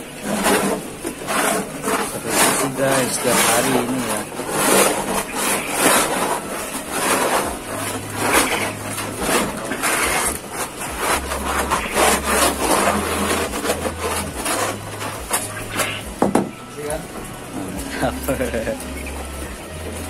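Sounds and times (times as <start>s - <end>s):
scraper rasping on wooden tray: 0.0s - 16.5s.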